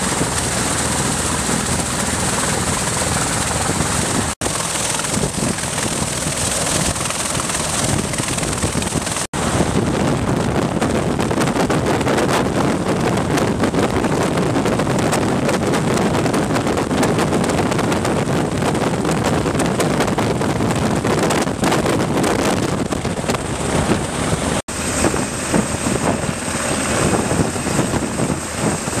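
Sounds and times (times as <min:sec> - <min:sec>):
aircraft rotors chopping: 0:00.0 - 0:29.0
wind noise on microphone: 0:00.0 - 0:29.0.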